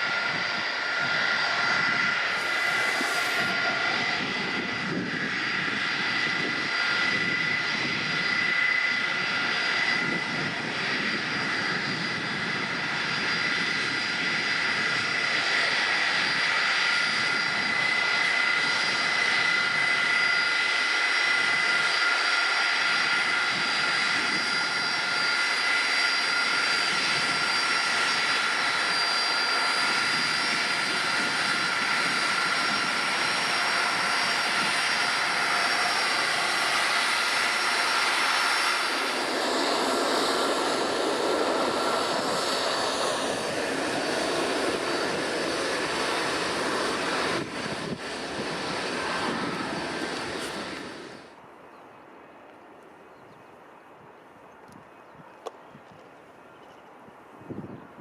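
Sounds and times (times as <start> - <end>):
jet engines running: 0.0 - 57.9.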